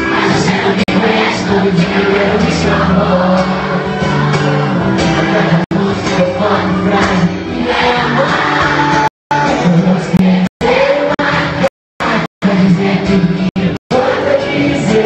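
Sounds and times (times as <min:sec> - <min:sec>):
live band with singers: 0:00.0 - 0:15.0.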